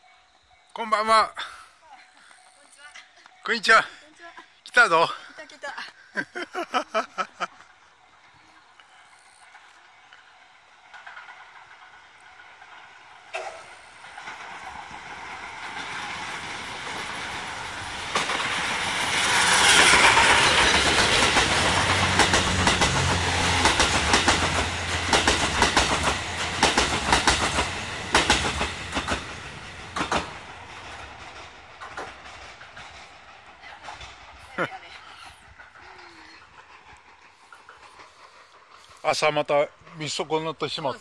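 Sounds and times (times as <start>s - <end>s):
steam train passing: 0.0s - 41.0s
wheels clacking over rail joints: 7.5s - 41.0s.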